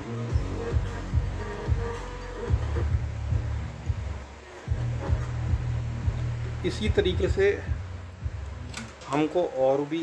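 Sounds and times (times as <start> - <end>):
bass-heavy song over speakers: 0.0 - 9.0.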